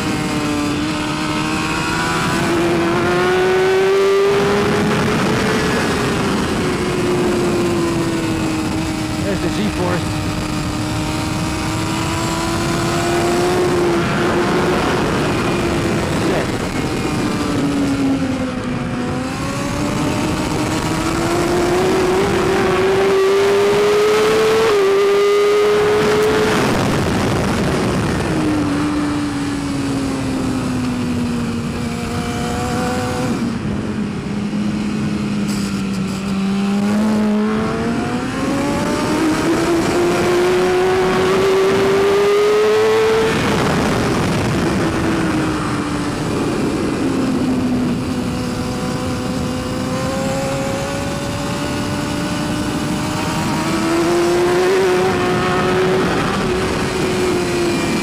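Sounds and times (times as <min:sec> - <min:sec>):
motorcycle engine at racing speed: 0:00.0 - 0:58.0
wind rush: 0:00.0 - 0:58.0.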